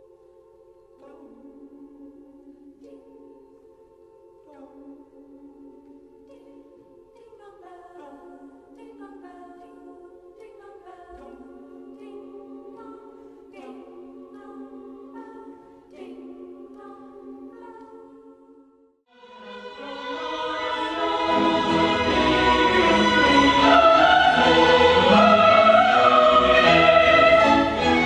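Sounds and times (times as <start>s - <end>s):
choir singing unaccompanied: 0.0s - 28.0s.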